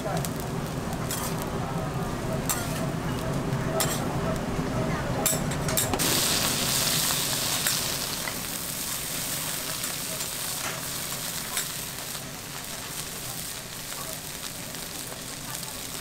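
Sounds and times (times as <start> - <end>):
food sizzling in oil: 0.0 - 4.2, 5.9 - 16.0.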